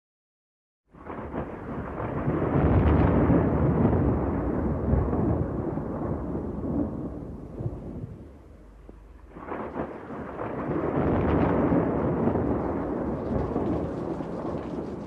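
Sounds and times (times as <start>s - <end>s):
rain: 0.9s - 15.0s
thunder rumbling: 0.9s - 15.0s.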